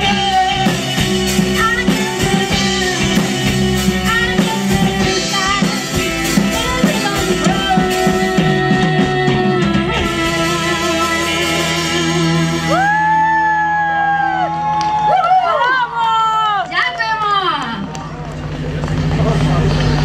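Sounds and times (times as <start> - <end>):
live rock band: 0.0 - 20.0.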